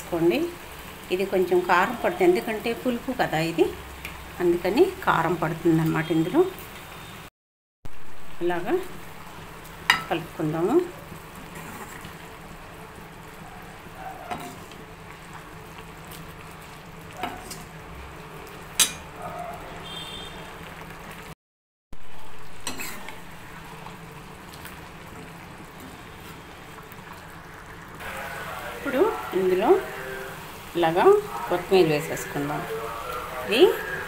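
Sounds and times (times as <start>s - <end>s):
stew simmering and sizzling: 0.0s - 7.3s, 7.9s - 34.0s.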